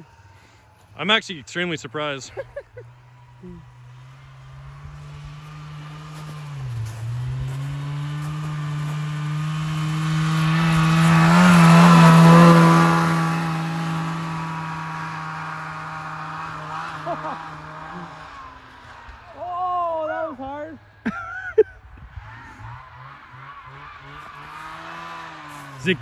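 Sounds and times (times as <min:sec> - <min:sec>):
two-stroke snowmobile passing by: 0:00.0 - 0:26.0.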